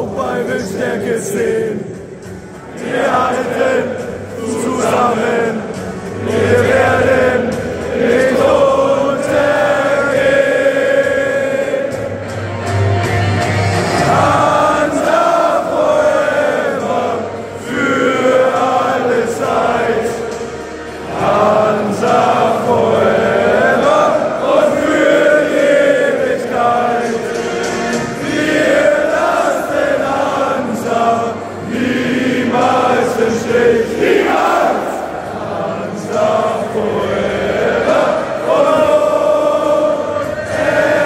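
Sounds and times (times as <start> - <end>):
stadium crowd singing: 0.0 - 41.0.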